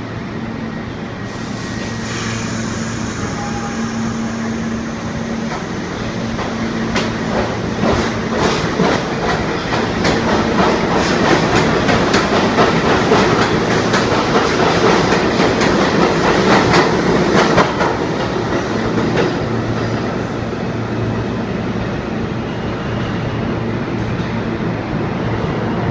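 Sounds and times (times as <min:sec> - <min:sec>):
subway train rumble: 0:00.0 - 0:25.9.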